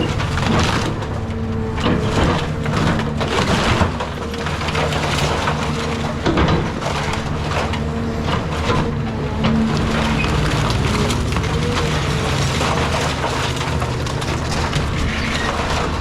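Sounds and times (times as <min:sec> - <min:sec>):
excavator diesel engine running: 0:00.0 - 0:16.0
wood crushing and splintering: 0:00.0 - 0:16.0.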